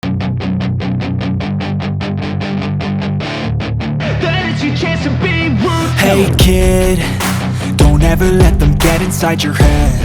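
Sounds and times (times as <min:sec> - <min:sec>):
guitar strummed fast: 0:00.0 - 0:10.0
low bass line: 0:00.0 - 0:10.0.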